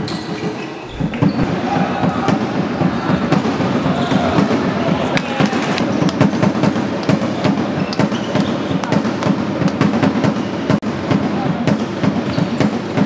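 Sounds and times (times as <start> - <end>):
crowd noise indoors: 0.0 - 13.0
sharp claps and bangs: 0.0 - 13.0.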